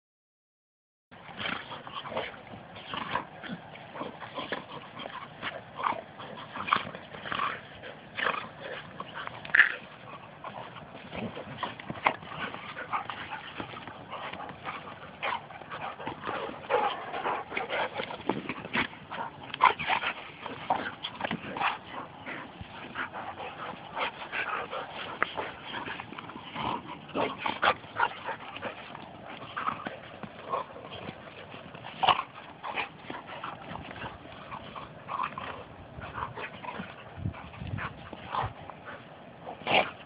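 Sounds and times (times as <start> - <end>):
dogs vocalising while playing: 1.2 - 40.0.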